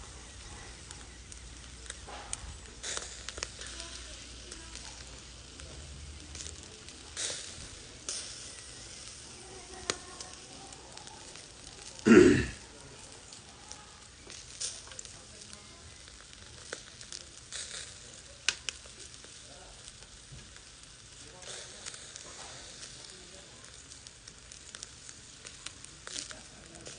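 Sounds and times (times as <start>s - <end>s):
chicken wings sizzling on grill: 0.0s - 26.9s
coals crackling and popping: 0.0s - 26.9s.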